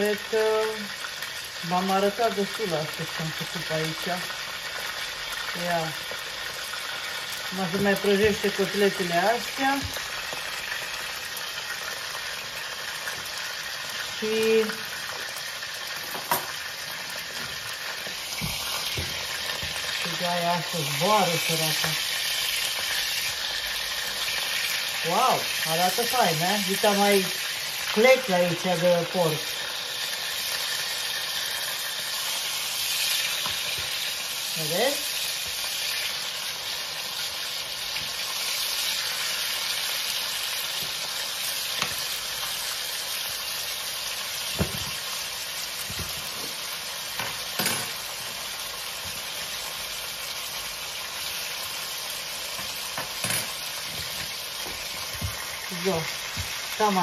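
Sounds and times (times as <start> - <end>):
pork chops sizzling in a pan: 0.0 - 57.0.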